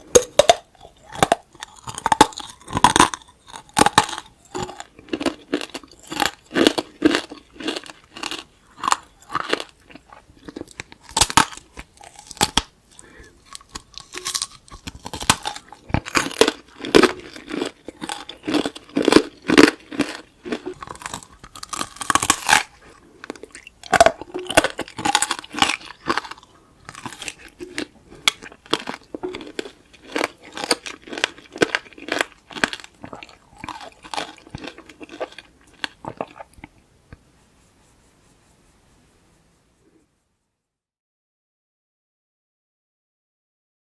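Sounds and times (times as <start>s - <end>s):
crunching and chewing candy: 0.0s - 36.8s.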